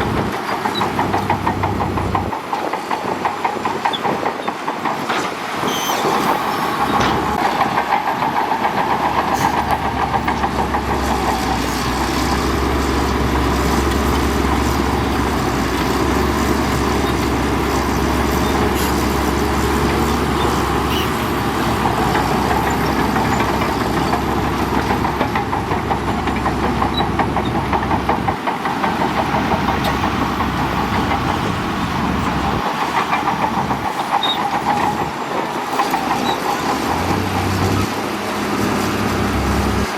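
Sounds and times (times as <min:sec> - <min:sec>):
bulldozer diesel engine under load: 0:00.0 - 0:02.5, 0:05.3 - 0:39.9
steel tracks clattering: 0:00.0 - 0:39.9.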